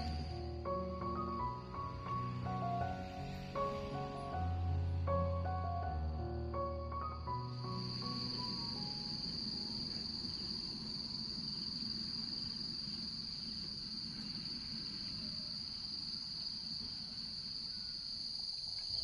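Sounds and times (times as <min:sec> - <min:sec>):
low background rumble: 0:00.0 - 0:18.5
insects chirring: 0:00.0 - 0:19.0.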